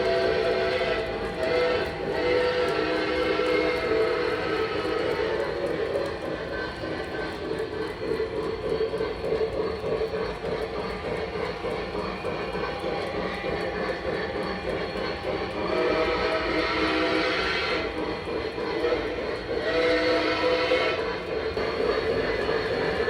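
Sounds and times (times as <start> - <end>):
model train rumbling on track: 0.0 - 23.0.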